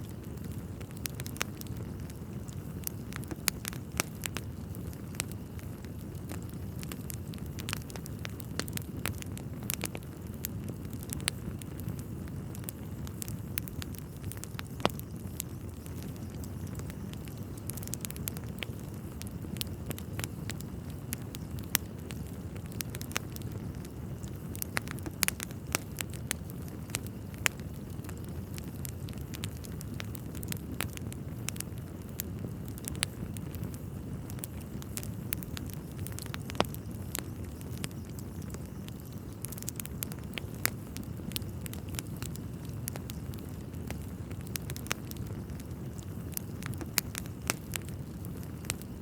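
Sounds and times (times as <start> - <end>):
fire crackling and popping: 0.0 - 49.0
low rumble of flames: 0.0 - 49.0.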